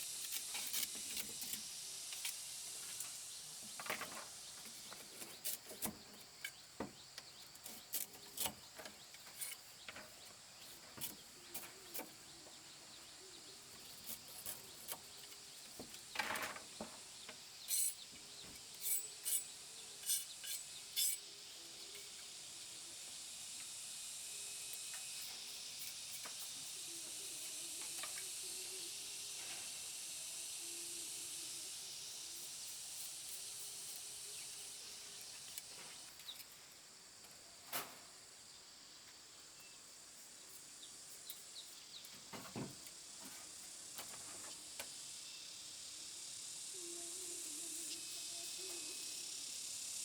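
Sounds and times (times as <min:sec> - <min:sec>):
insect chorus hiss: 0:00.0 - 0:50.0.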